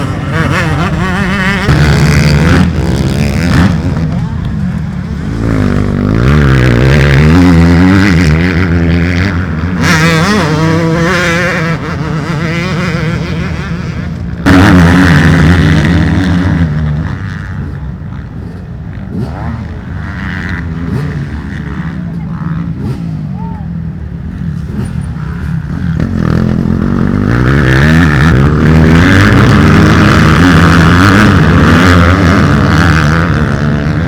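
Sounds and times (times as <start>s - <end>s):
motocross engines revving: 0.0s - 34.0s.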